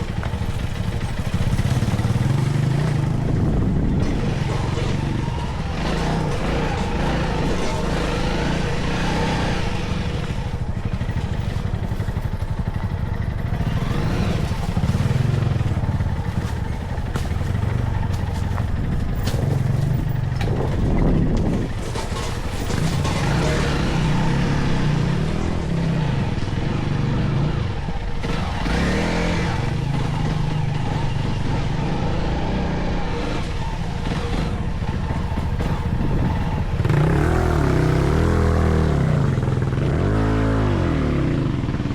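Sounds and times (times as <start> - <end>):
motorcycle engine revving: 0.0 - 41.9
rough ride noise: 0.0 - 41.9.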